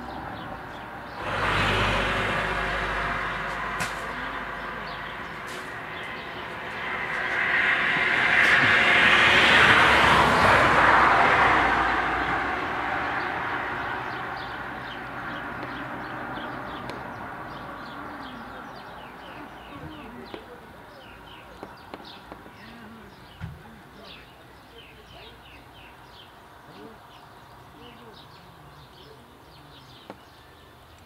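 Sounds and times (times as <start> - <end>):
vehicle passing: 0.0 - 29.0
birds chirping: 0.0 - 31.0.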